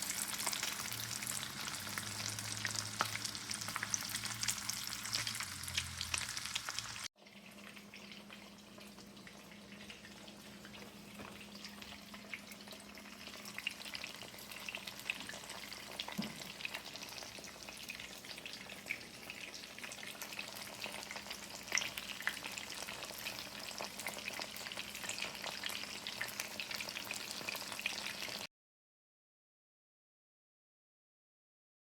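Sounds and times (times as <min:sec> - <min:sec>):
food sizzling in hot oil: 0:00.0 - 0:28.5.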